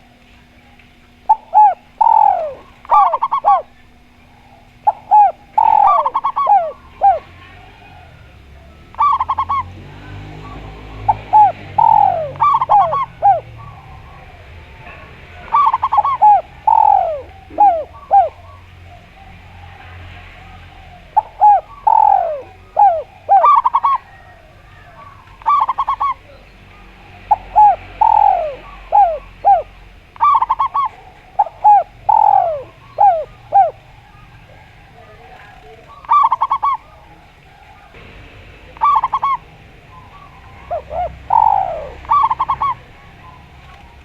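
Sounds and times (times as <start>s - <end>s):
doves cooing: 0.0s - 44.0s.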